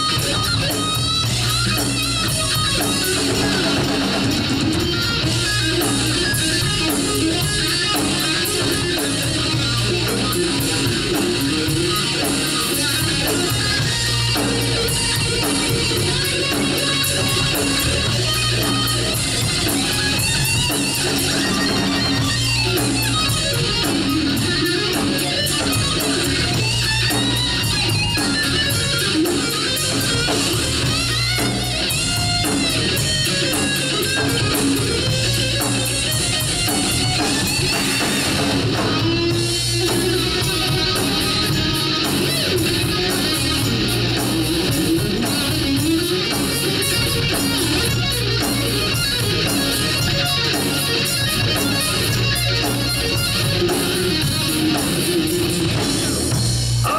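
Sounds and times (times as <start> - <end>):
bass guitar: 0.0 - 56.9
drums: 0.0 - 56.9
electric guitar lead: 0.0 - 56.9.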